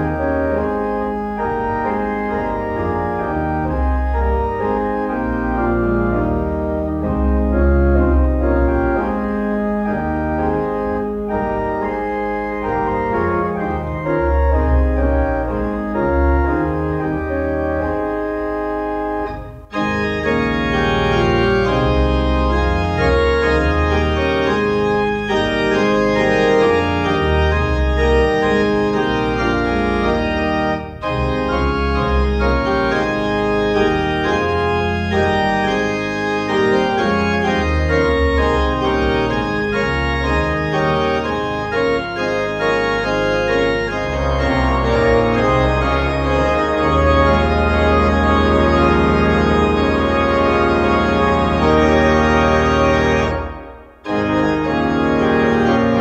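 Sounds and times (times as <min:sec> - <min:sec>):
church organ playing: 0:00.0 - 0:56.0.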